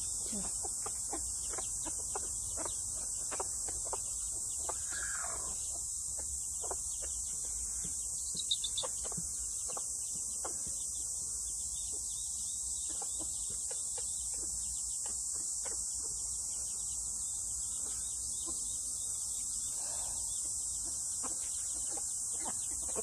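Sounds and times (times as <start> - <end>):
chickens clucking: 0.0 - 23.0
insects droning: 0.0 - 23.0.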